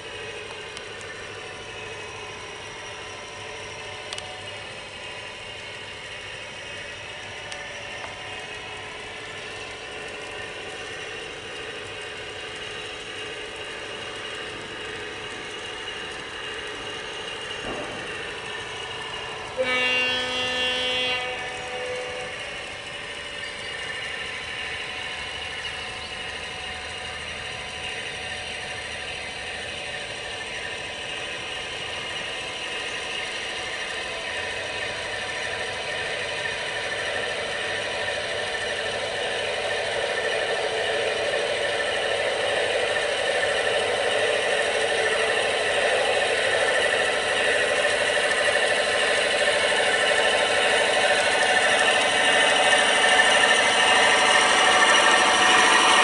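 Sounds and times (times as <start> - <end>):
model train engine running: 0.0 - 56.0
wheels rattling on track: 0.0 - 56.0.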